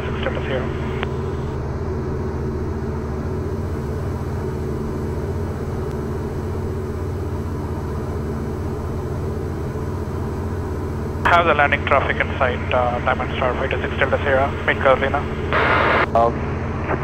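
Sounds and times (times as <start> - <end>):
aircraft engine and propeller drone: 0.0 - 17.0.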